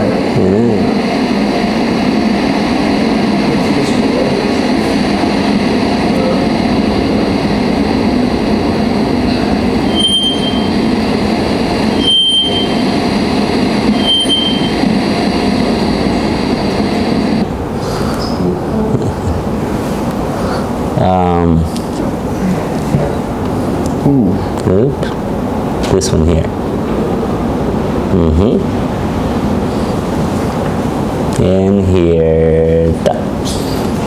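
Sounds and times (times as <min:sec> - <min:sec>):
loud steady background noise: 0:00.0 - 0:34.0.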